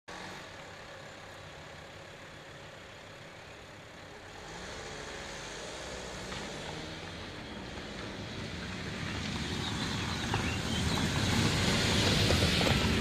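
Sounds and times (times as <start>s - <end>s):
vehicle engine running: 0.1s - 13.0s.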